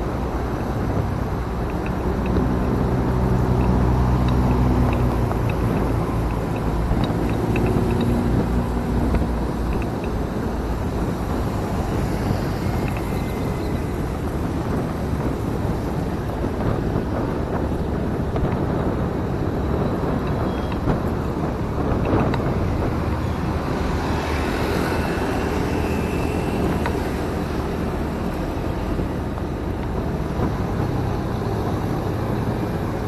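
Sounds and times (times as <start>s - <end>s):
road noise: 0.0s - 33.0s
wind rushing past microphone: 0.0s - 33.0s.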